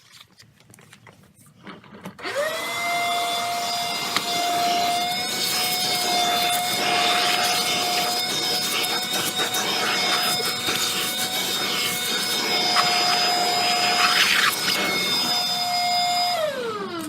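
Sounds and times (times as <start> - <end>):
vacuum cleaner motor whine: 2.2 - 17.0.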